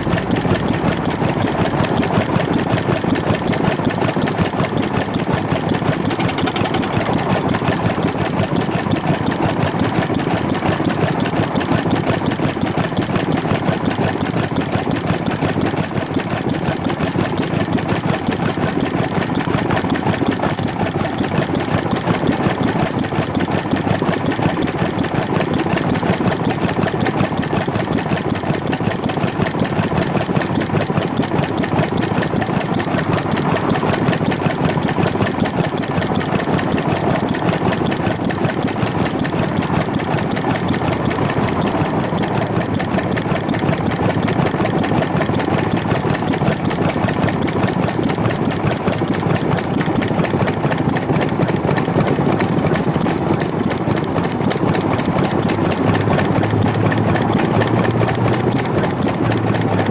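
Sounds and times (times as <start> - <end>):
single-cylinder engine running: 0.0 - 59.9.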